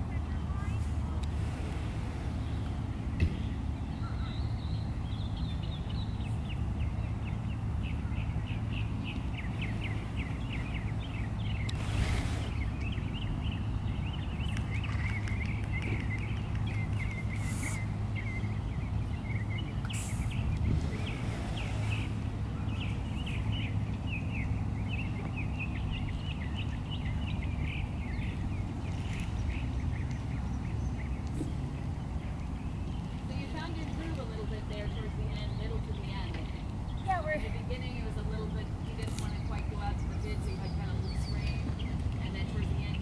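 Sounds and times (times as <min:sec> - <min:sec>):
small birds chirping: 0:00.0 - 0:43.0
steady low hum: 0:00.0 - 0:43.0.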